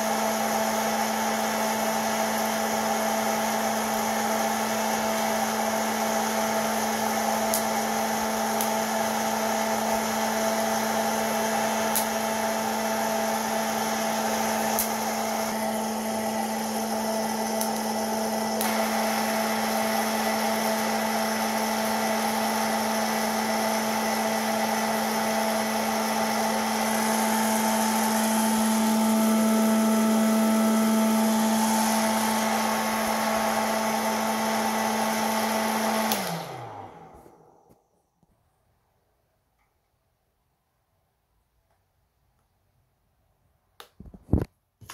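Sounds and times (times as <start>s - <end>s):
steady motor hum: 0.0s - 37.6s
popcorn popper fan blowing: 0.0s - 37.9s.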